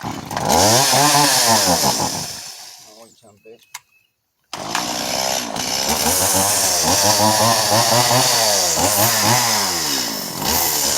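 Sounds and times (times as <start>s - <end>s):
chainsaw cutting wood: 0.0s - 2.9s, 4.5s - 10.9s.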